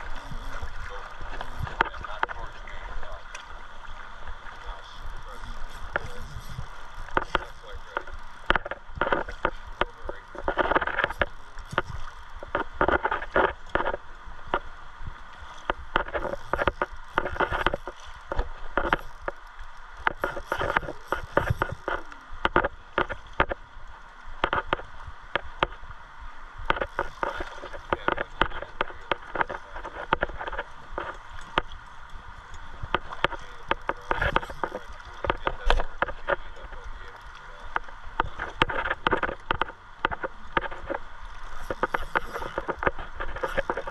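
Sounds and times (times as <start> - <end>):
clicks and knocks near microphone: 0.0 - 3.5, 4.6 - 14.7, 15.5 - 23.6, 24.4 - 25.8, 26.6 - 31.8, 32.5 - 43.9
river water flowing and splashing: 0.0 - 43.9.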